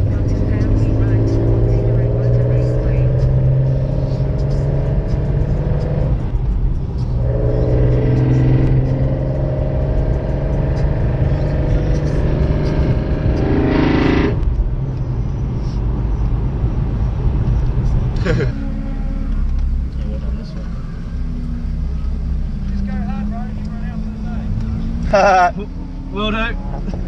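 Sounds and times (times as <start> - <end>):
car engine droning: 0.0 - 27.0.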